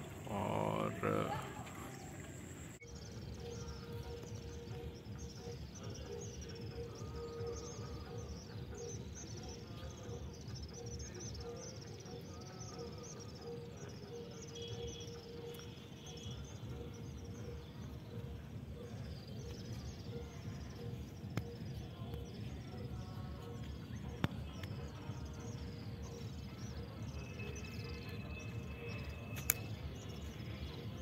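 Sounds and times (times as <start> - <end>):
small birds twittering: 0.0 - 31.0.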